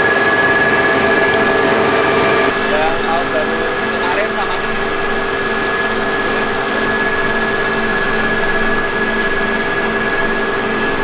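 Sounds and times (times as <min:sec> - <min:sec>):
high whine: 0:00.0 - 0:11.0
pump machine hum: 0:00.0 - 0:11.0.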